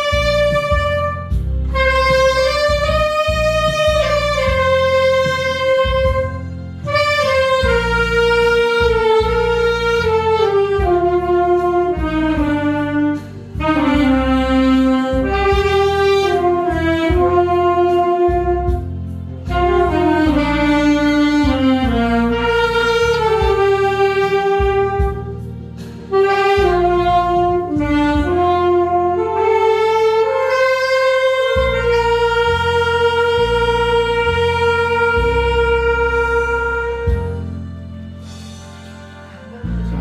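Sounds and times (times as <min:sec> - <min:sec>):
accompaniment track with bass: 0:00.0 - 0:40.0
saxophone ballad melody: 0:00.0 - 0:40.0.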